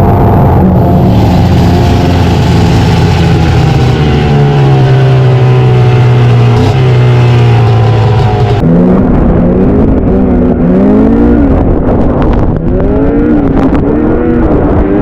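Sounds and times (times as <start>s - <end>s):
snowmobile engine at high revs: 0.0s - 15.0s.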